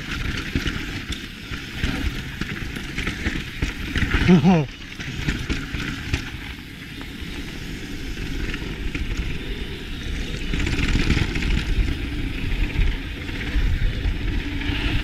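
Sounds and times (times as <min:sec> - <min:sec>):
bike tyres rolling over dirt: 0:00.0 - 0:15.0
wind rumble on microphone: 0:00.0 - 0:15.0.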